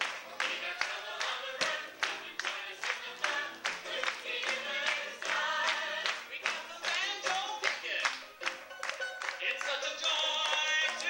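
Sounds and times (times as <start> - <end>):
clapping on the beat: 0.0 - 11.0
group singing upbeat song: 0.0 - 11.0.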